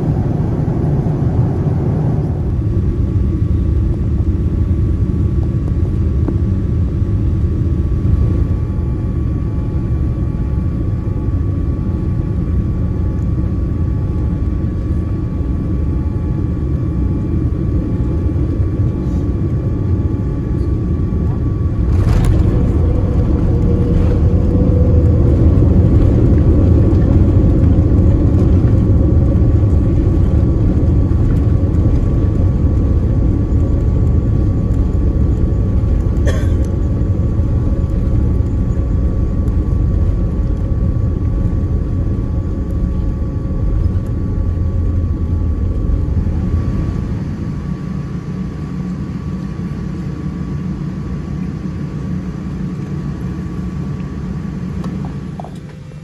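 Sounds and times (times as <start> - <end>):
engine and wheel rumble: 0.0 - 56.0
steady cabin hum: 0.0 - 56.0.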